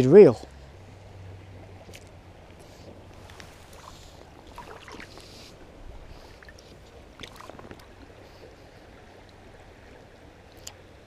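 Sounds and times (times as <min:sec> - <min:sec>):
river running over gravel: 0:01.3 - 0:10.5.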